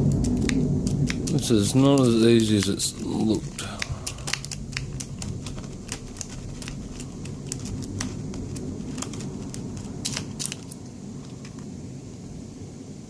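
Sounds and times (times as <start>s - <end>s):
lock pick raking padlock pins: 0.1s - 10.8s.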